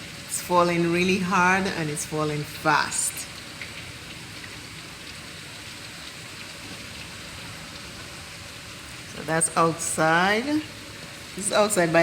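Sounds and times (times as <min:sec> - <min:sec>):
water pouring off gutter: 0:00.0 - 0:12.0.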